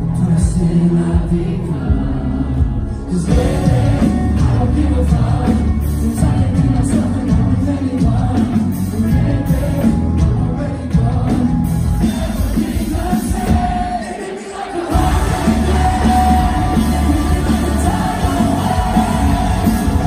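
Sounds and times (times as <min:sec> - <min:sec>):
amplified singing: 0:00.0 - 0:20.0
metalcore band playing live: 0:00.0 - 0:20.0.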